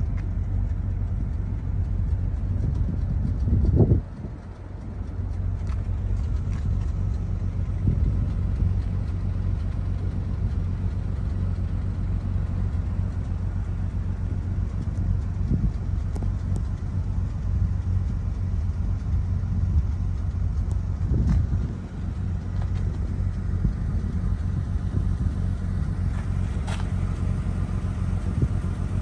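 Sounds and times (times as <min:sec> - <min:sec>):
moving car rumble: 0:00.0 - 0:29.0.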